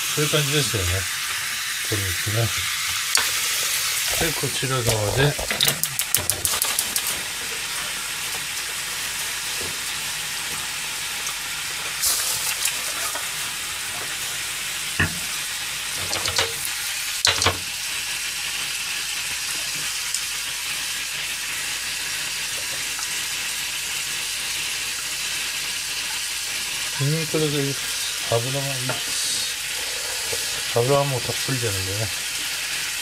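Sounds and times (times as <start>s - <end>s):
chicken sizzling in a frying pan: 0.0s - 33.0s.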